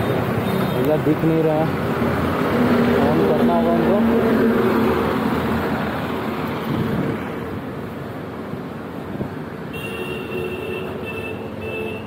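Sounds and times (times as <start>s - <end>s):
passing traffic hum: 0.0s - 12.0s.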